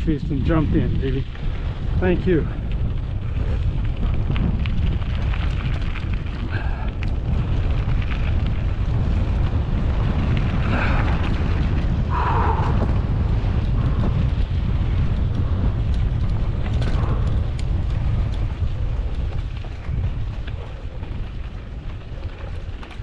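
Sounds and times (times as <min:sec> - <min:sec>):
bike clicks and rattles: 0:00.0 - 0:23.0
wind buffeting microphone: 0:00.0 - 0:23.0.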